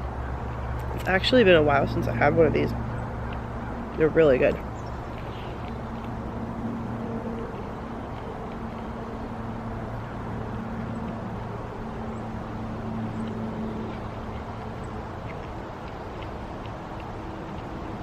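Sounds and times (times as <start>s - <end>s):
low motor hum: 0.0s - 18.0s
chewing mouth sounds: 2.7s - 18.0s.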